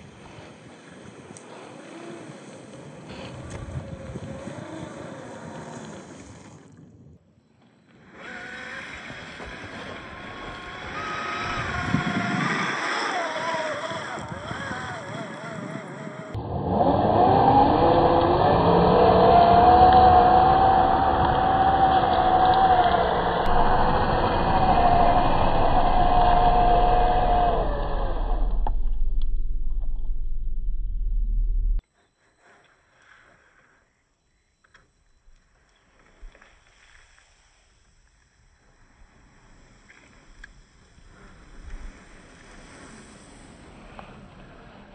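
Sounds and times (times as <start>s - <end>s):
rc car motor and gear whine: 1.3s - 44.9s.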